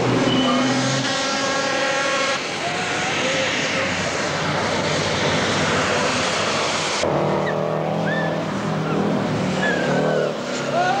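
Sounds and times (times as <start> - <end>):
steady engine drone: 0.0 - 11.0
truck engine and tyre noise: 0.0 - 11.0.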